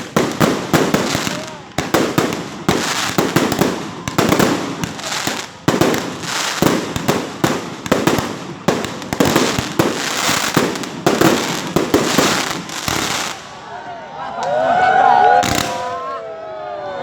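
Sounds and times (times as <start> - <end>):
fireworks bangs and crackle: 0.0 - 13.6, 15.4 - 16.1.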